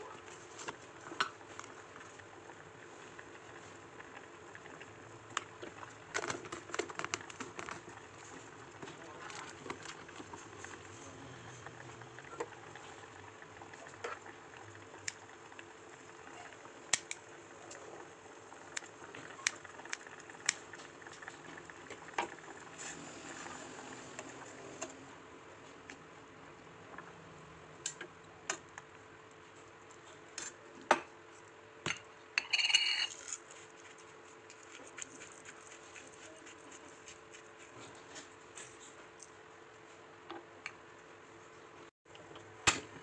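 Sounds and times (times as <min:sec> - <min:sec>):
food boiling in a pot: 0:00.0 - 0:32.4, 0:33.2 - 0:43.0.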